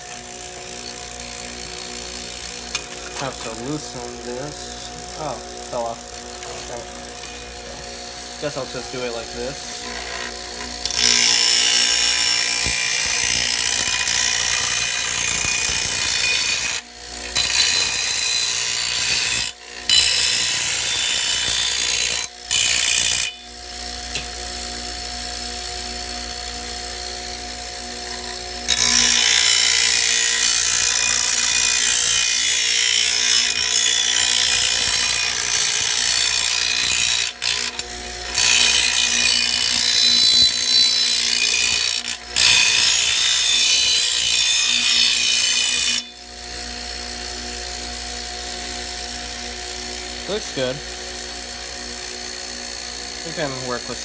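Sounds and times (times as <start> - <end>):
blade grinding on wheel: 0.0 - 54.0
grinding wheel running: 0.0 - 54.0.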